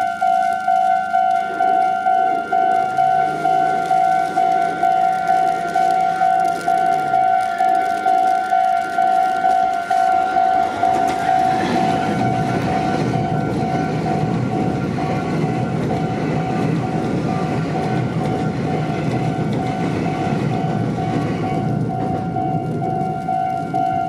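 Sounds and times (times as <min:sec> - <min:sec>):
level crossing warning bell: 0:00.0 - 0:24.0
train wheels rumbling on rails: 0:00.0 - 0:24.0.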